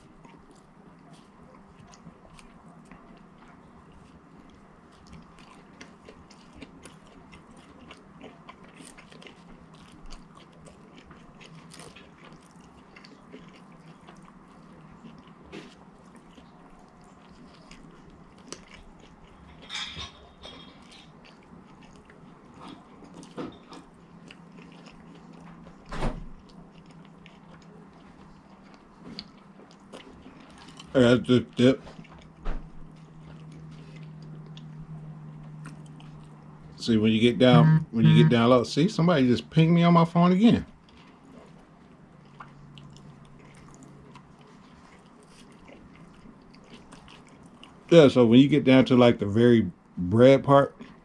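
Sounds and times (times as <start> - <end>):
chewing and biting food: 0.0 - 37.6, 40.6 - 48.2, 50.6 - 51.0.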